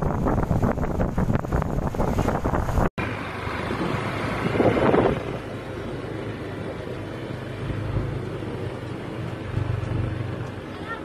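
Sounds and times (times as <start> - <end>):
wind rushing over microphone: 0.0 - 10.5.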